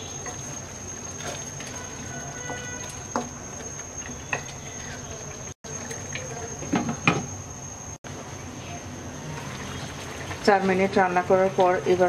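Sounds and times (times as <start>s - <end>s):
curry simmering and crackling: 0.0s - 7.0s, 9.1s - 12.0s.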